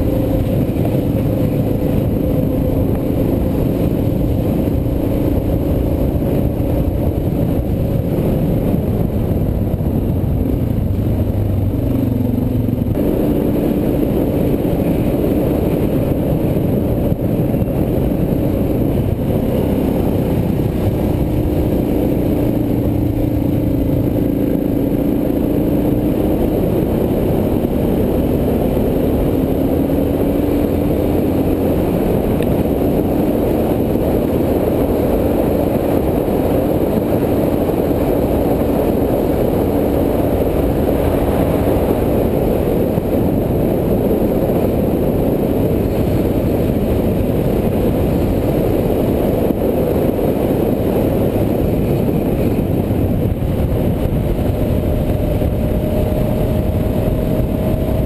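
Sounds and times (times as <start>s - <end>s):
motorcycle engine cruising: 0.0s - 58.0s
wind rush: 0.0s - 58.0s.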